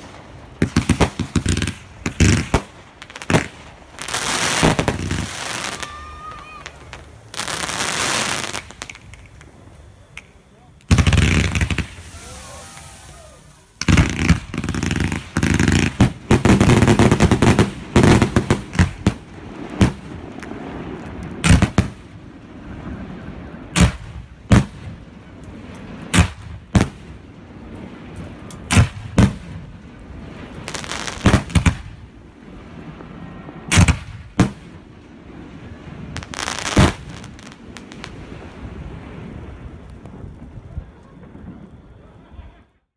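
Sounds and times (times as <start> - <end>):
fireworks bursting: 0.0 - 42.8.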